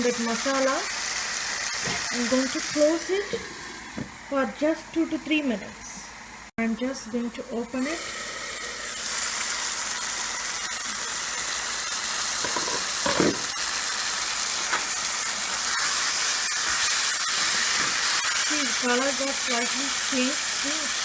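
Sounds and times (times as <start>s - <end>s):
chicken sizzling in oil: 0.0s - 3.9s, 7.8s - 21.0s.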